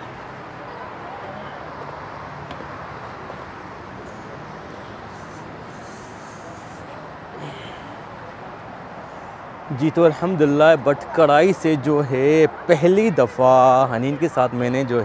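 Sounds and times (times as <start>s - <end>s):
background traffic: 0.0s - 15.0s
murmur of voices: 0.0s - 15.0s.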